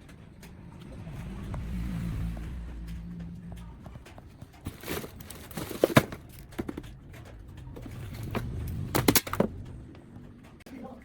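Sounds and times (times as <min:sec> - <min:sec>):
sharp knocks and clatters: 0:01.2 - 0:10.6.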